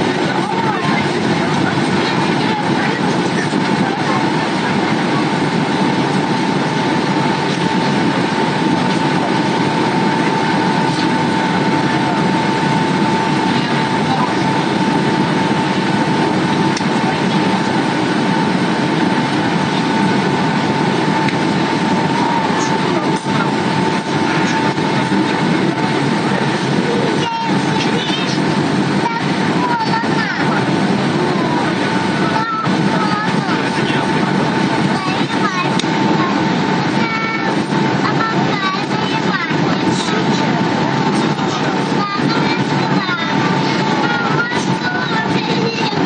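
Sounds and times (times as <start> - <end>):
airliner cabin noise: 0.0 - 46.0
steady high whine: 0.0 - 46.0.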